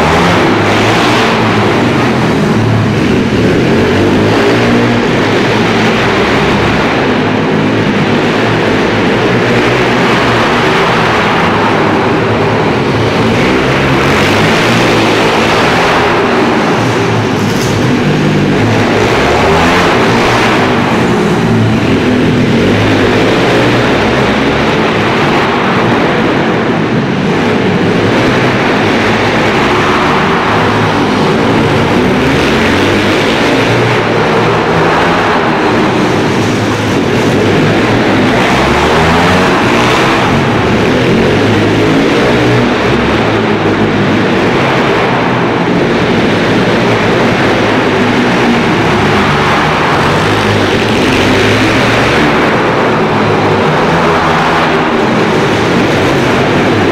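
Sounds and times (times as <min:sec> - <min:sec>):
pit bike engines revving: 0:00.0 - 0:56.9.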